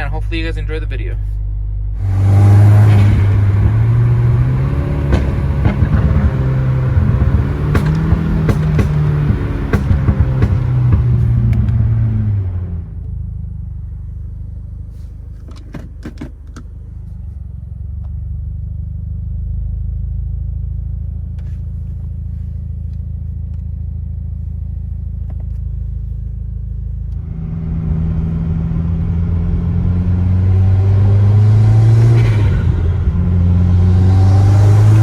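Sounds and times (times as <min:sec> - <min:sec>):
car engine rumbling: 0:00.0 - 0:35.0.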